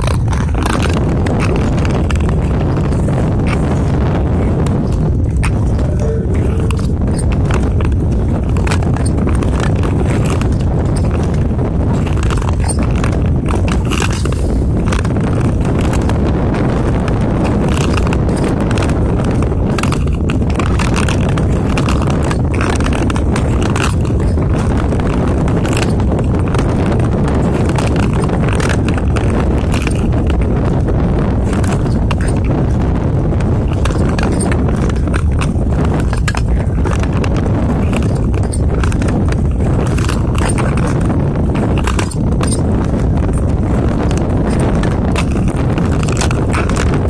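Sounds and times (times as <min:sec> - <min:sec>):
skate blades scraping ice: 0:00.0 - 0:05.8, 0:06.4 - 0:47.0
wind on microphone: 0:00.0 - 0:47.0.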